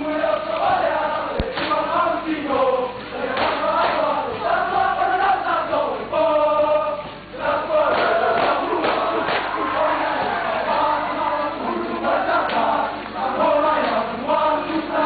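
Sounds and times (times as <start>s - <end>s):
men singing and chanting: 0.0s - 15.0s.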